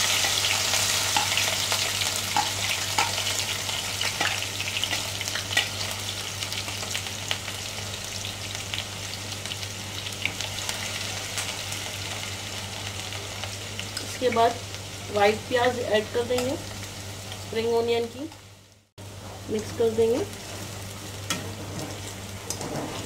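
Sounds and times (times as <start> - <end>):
chillies sizzling in hot oil: 0.0 - 23.0.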